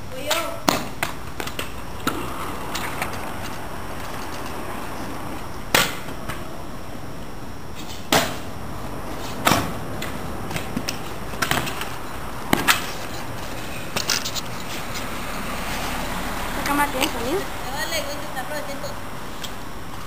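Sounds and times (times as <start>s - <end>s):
steady hiss: 0.0s - 20.0s
scooter rolling on pavement: 0.1s - 7.7s, 8.4s - 20.0s.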